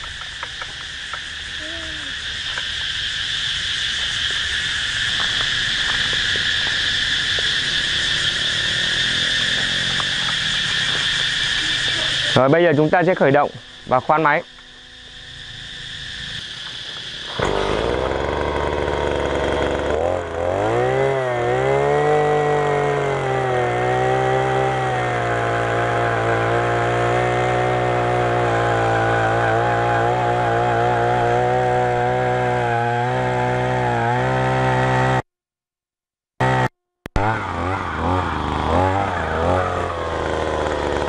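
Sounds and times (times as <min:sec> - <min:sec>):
earth auger engine revving: 0:04.3 - 0:35.3, 0:36.4 - 0:41.0.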